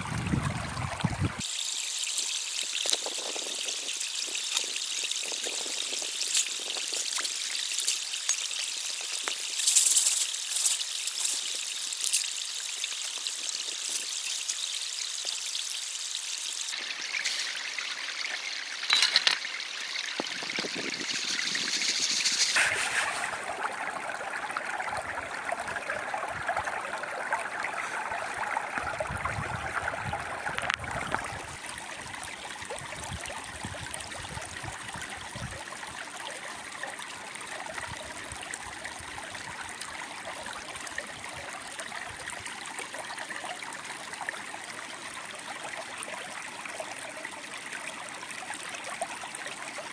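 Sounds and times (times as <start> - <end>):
stream water running: 0.0 - 49.9.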